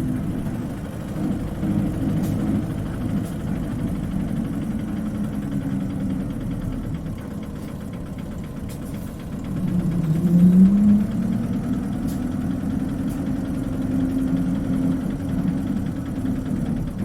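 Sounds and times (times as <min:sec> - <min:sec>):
bus engine humming: 0:00.0 - 0:17.0.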